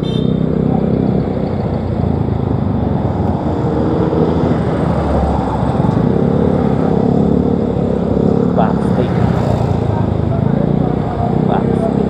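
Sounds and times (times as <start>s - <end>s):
motorcycle engine running: 0.0s - 4.6s, 5.4s - 12.0s
road and wind noise: 0.0s - 12.0s.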